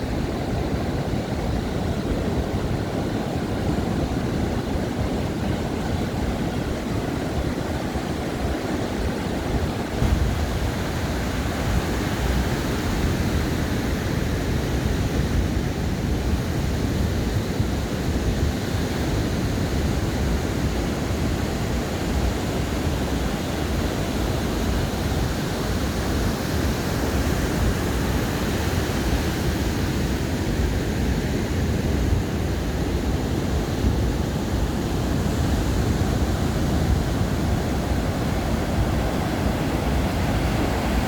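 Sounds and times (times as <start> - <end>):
ocean surf washing onto beach: 0.0 - 41.0.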